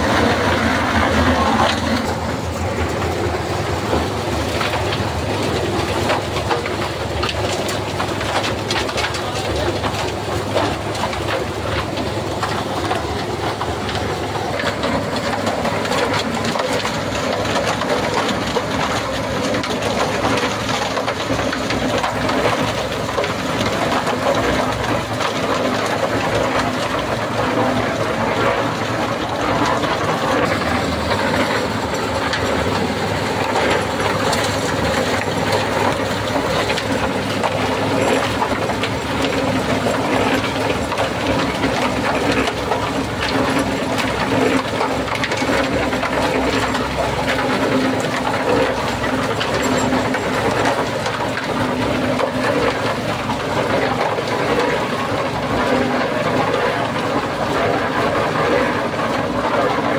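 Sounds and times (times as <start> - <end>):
concrete mixer running: 0.0 - 59.9.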